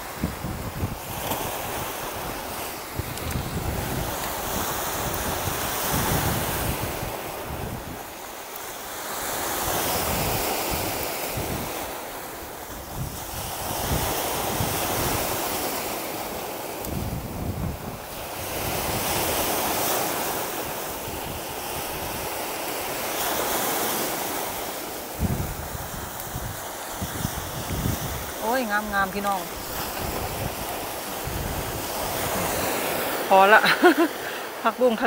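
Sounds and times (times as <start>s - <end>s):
wind buffeting microphone: 0.0s - 8.3s, 9.1s - 34.1s
surf washing onto stony beach: 0.0s - 35.0s.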